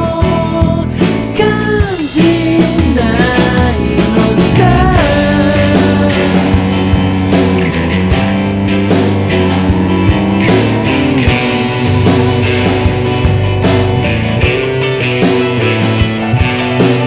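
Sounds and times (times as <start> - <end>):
bass: 0.0 - 17.0
drums: 0.0 - 17.0
electric guitar: 0.0 - 17.0.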